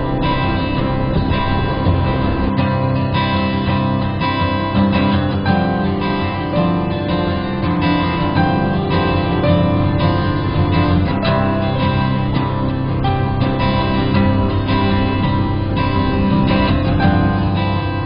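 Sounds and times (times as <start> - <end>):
guitar-led instrumental music: 0.0 - 18.0.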